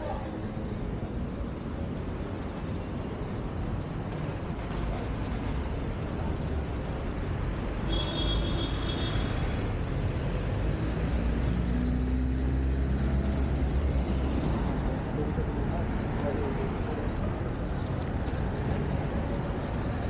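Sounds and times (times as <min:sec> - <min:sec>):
cars and scooters driving past: 0:00.0 - 0:20.0
steady low traffic rumble: 0:00.0 - 0:20.0.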